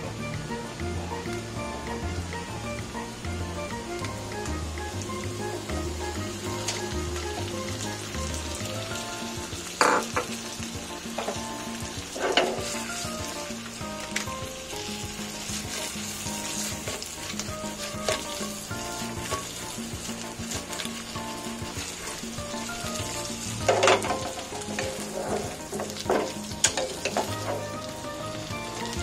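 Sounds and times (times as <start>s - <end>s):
faint background music: 0.0s - 29.0s
shrimp sizzling in a frying pan: 0.0s - 29.0s.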